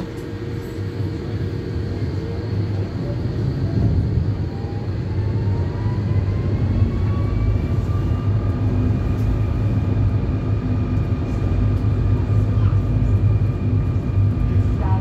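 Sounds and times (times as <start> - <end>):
tram motor whining: 0.0 - 15.0.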